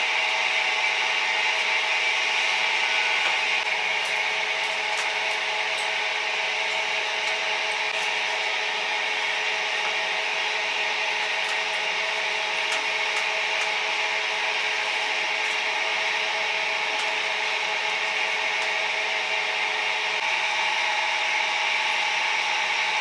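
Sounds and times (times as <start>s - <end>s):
chicken sizzling on grill: 0.1s - 23.0s.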